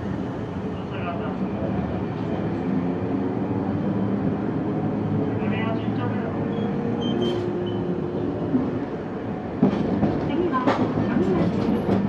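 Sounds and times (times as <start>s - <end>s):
tram running gear hum: 0.0s - 12.0s.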